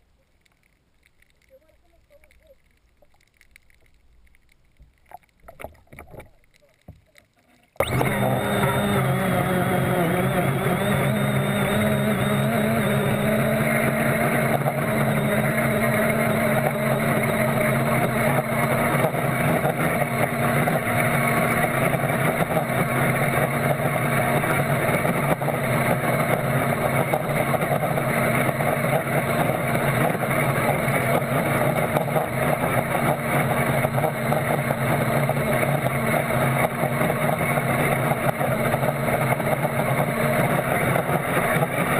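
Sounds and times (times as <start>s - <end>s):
model boat motor drone: 7.8s - 41.9s.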